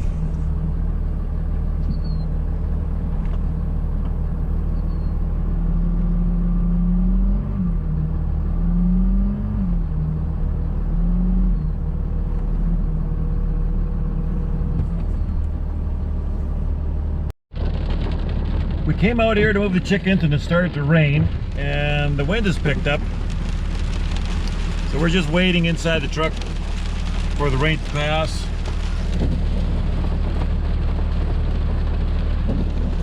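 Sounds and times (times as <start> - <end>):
truck engine revving: 4.4 - 17.3, 18.0 - 33.0.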